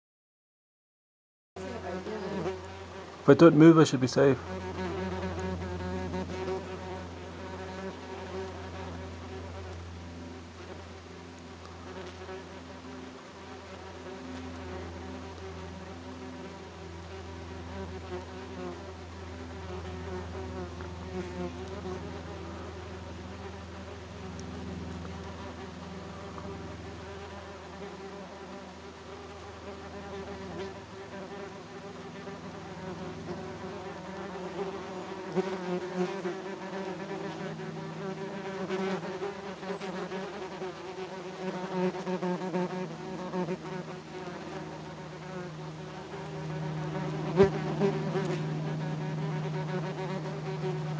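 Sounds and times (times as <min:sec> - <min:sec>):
wasps buzzing: 0:01.6 - 0:50.9.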